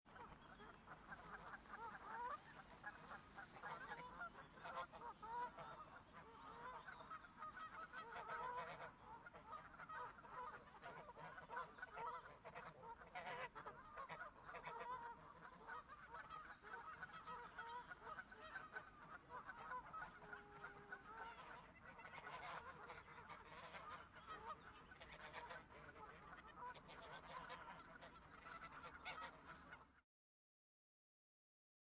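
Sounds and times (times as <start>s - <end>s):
flock of geese honking: 0.1s - 30.0s.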